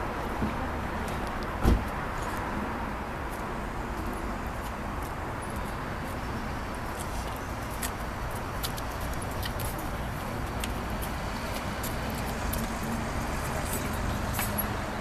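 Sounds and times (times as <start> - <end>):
faint traffic hum: 0.0 - 15.0.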